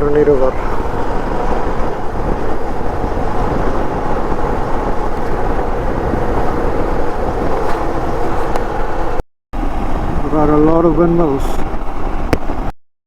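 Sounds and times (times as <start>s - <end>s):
motorcycle engine cruising: 0.0s - 10.6s
road and wind noise: 0.0s - 12.8s.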